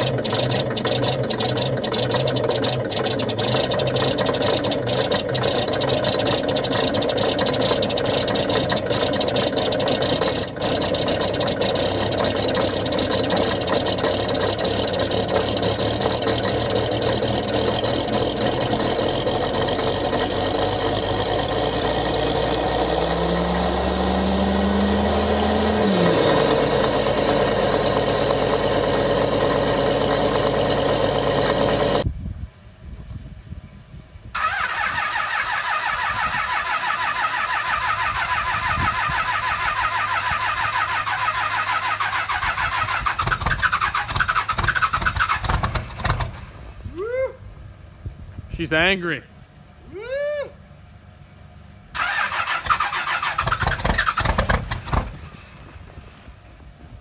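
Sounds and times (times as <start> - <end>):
pickup truck diesel engine pulsing: 0.0 - 32.0, 34.4 - 46.9, 50.5 - 57.0
large diesel engine running: 0.0 - 32.2, 35.6 - 46.9, 47.5 - 57.0.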